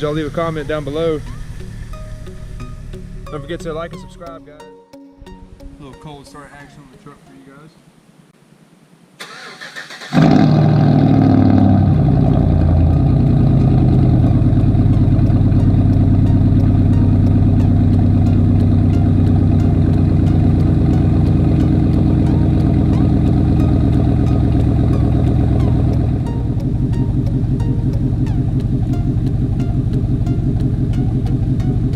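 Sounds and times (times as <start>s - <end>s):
engine cold idle: 0.0s - 3.3s, 9.2s - 31.9s.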